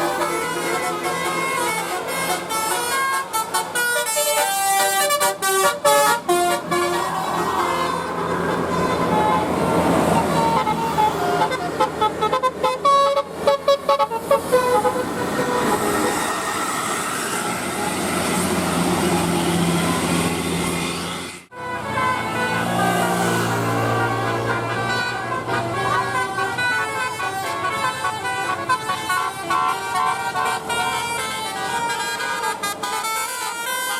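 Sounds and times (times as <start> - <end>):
engine running: 0.0 - 33.7
musical bus air horn tune: 0.0 - 33.9
street noise: 0.0 - 33.9.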